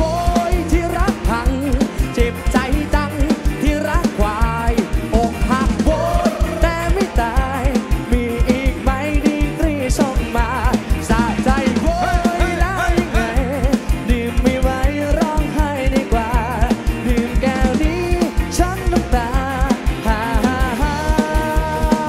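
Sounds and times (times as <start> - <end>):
fast drum beat: 0.0 - 22.0
live rock band playing: 0.0 - 22.0.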